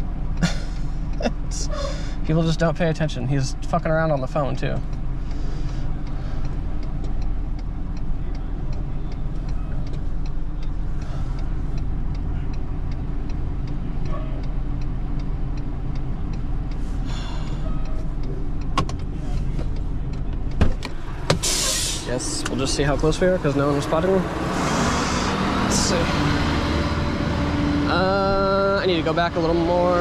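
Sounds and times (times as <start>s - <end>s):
flasher relay ticking: 0.0s - 21.4s, 22.0s - 26.8s
truck engine idling: 0.0s - 30.0s.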